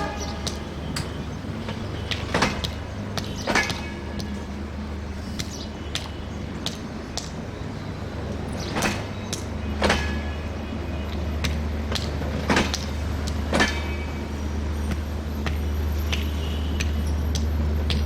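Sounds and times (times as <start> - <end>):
train rumble: 0.0 - 18.0
train wheels clacking on rails: 0.0 - 18.0.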